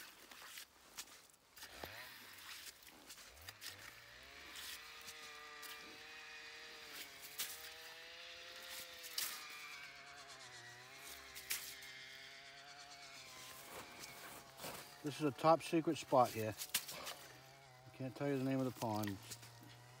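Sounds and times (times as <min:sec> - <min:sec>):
ice skimmer scooping slush: 0:00.0 - 0:20.0
wavering motor hum: 0:03.2 - 0:20.0.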